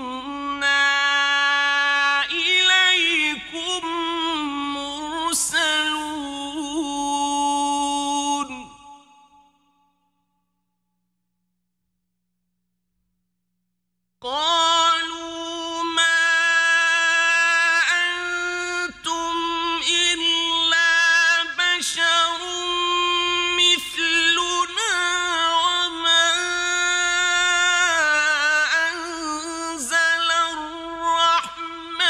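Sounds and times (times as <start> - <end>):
man chanting melodically: 0.0 - 9.6, 14.2 - 32.0.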